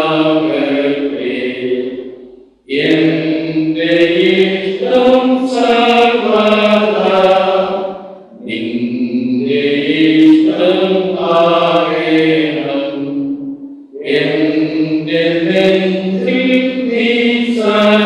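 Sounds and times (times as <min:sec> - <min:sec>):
hymn sung in held notes: 0:00.0 - 0:18.0.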